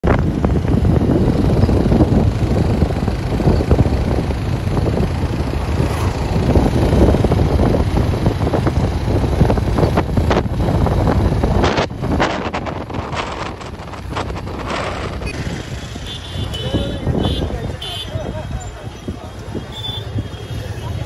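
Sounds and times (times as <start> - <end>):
motorcycle riding: 0.0 - 21.0
wind noise on microphone: 0.0 - 21.0.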